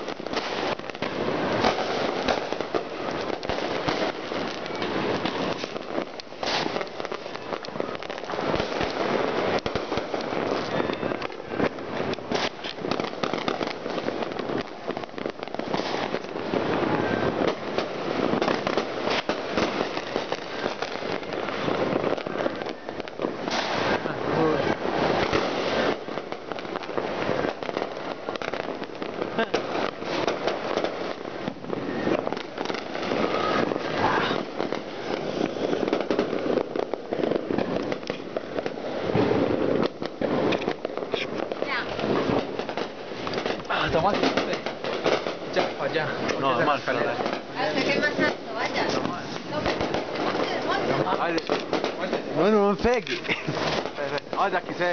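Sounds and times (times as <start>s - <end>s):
fireworks crackling and popping: 0.0s - 54.9s.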